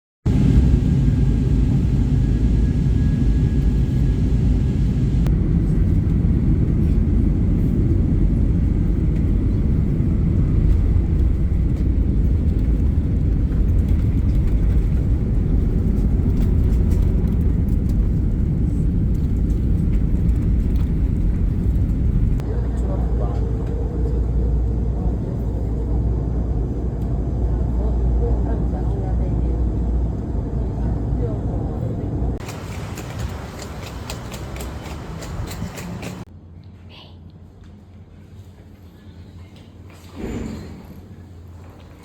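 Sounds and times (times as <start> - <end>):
vehicle rumble: 0.3 - 36.3.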